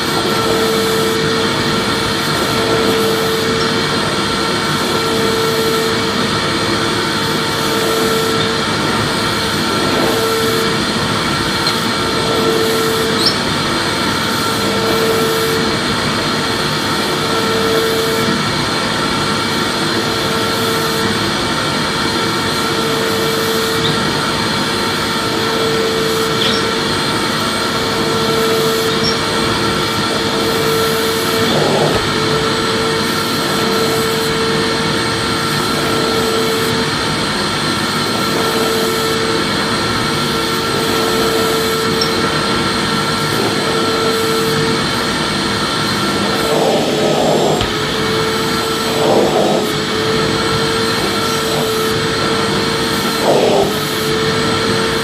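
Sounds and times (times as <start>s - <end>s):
vacuum cleaner motor running: 0.0s - 55.0s.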